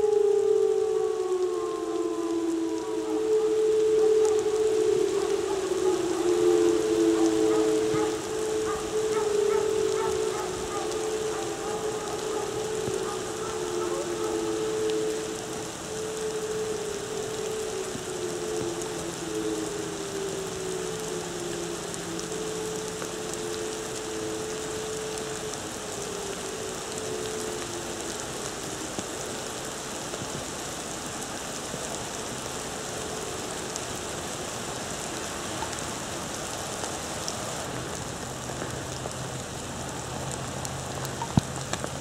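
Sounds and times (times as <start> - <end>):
distant sirens winding down: 0.0 - 42.0
rain hiss: 0.0 - 42.0.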